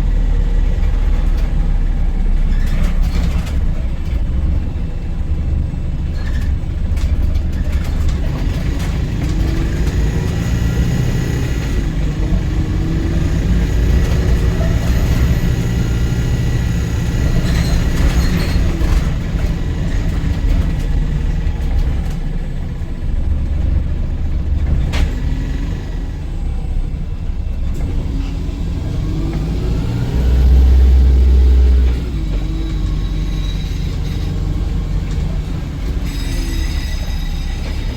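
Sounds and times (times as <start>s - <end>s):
bus body rattling: 0.0s - 37.9s
bus drivetrain running: 0.0s - 37.9s
road rumble: 0.0s - 37.9s.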